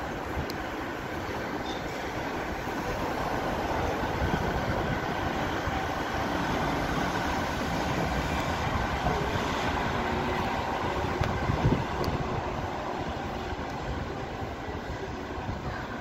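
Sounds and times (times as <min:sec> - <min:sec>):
light-rail car rolling on track: 0:00.0 - 0:16.0
road traffic: 0:00.0 - 0:16.0.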